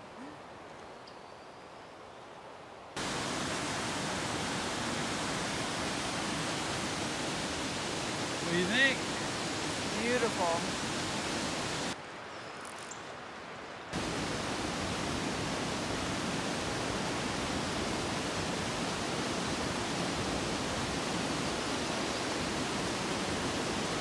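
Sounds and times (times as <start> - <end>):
water rushing and falling: 3.0 - 12.3, 13.1 - 24.0.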